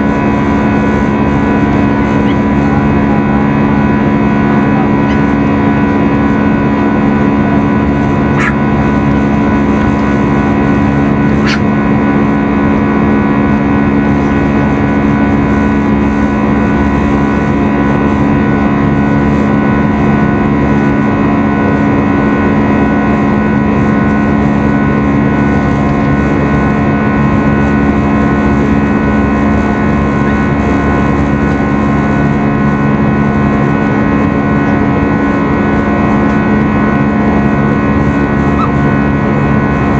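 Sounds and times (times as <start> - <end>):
airflow rush: 0.0 - 39.9
jet engine drone: 0.0 - 39.9
low hum: 0.0 - 39.9.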